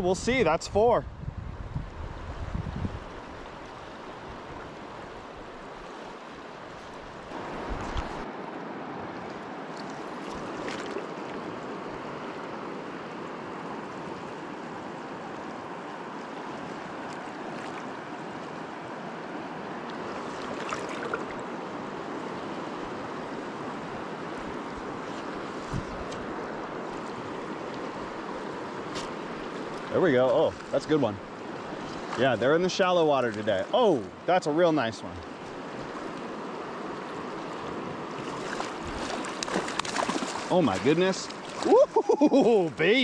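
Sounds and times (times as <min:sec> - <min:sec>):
river water rushing: 0:03.0 - 0:43.0.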